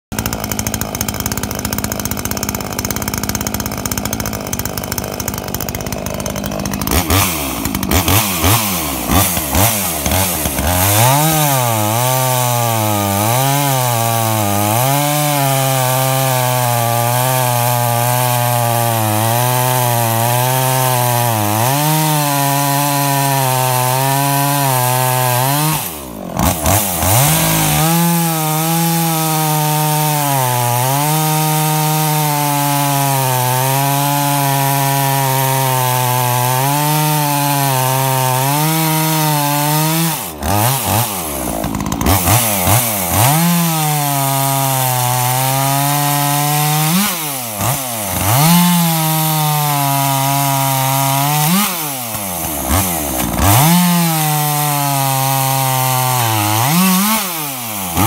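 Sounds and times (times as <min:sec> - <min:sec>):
chainsaw revving and cutting log: 0:00.0 - 0:58.0.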